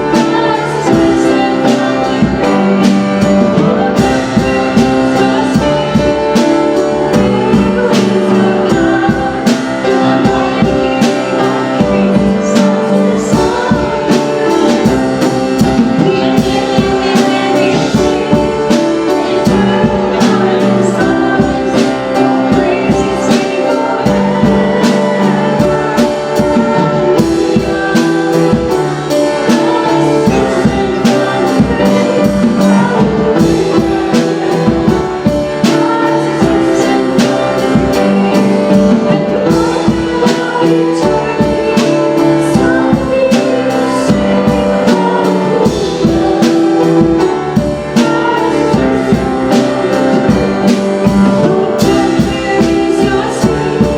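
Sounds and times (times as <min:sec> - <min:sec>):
drum and percussion hits: 0:00.0 - 0:53.9
person singing: 0:00.0 - 0:53.9
worship band music: 0:00.0 - 0:53.9.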